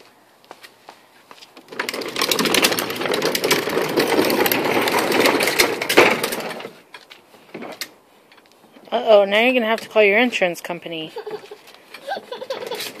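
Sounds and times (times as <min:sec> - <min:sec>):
plastic wheels rolling on concrete: 0:01.3 - 0:13.0.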